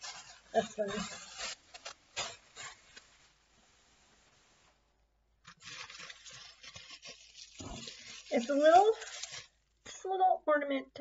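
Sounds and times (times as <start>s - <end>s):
tissue paper rustling: 0.0s - 10.0s.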